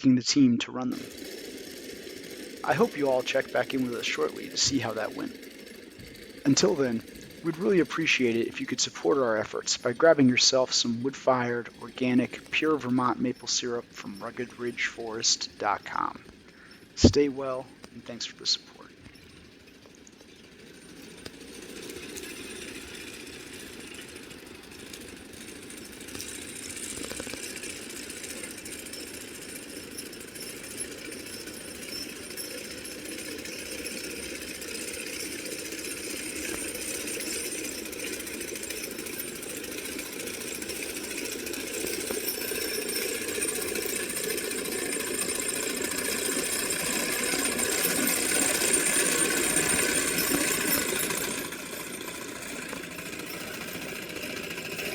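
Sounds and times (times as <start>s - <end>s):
mower cutter bar clattering: 0.9s - 54.9s.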